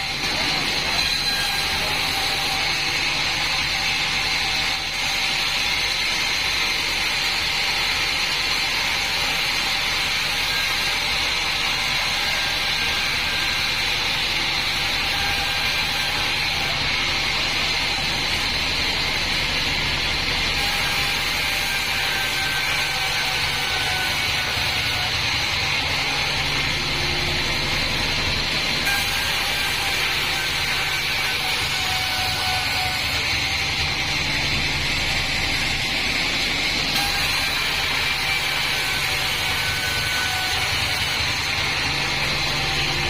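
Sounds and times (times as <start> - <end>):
band saw mill whining: 0.0 - 43.0.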